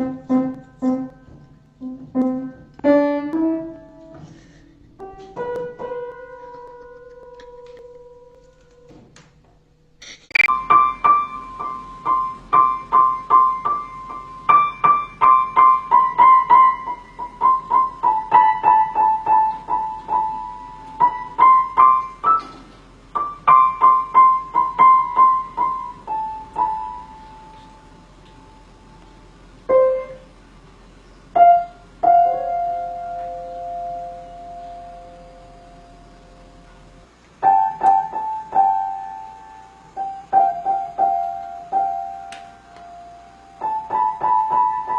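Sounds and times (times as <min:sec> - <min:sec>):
piano notes: 0:00.0 - 0:09.1, 0:10.3 - 0:44.9.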